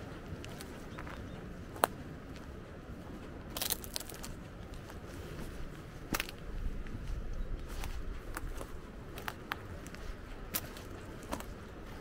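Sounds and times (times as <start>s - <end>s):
footsteps clicking and crunching: 0.0s - 12.0s
outdoor background noise: 0.0s - 12.0s.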